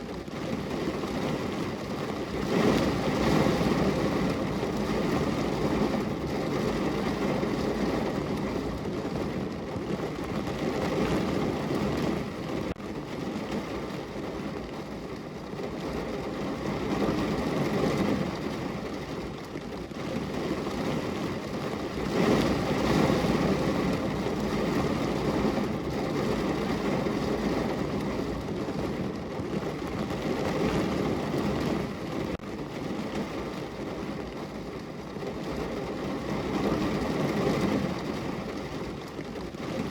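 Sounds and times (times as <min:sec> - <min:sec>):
heavy rain drumming on car roof: 0:00.0 - 0:39.9.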